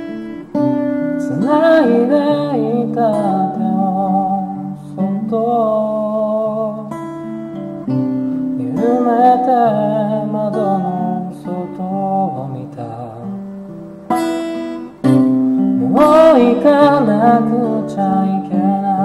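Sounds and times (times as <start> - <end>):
person singing: 0.0 - 7.6, 8.2 - 13.6, 15.1 - 19.0
acoustic guitar chords: 0.0 - 19.0.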